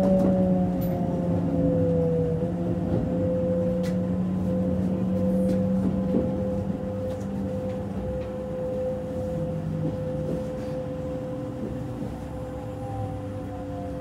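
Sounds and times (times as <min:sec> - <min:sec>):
train low rumble: 0:00.0 - 0:14.0
train whine: 0:00.0 - 0:14.0.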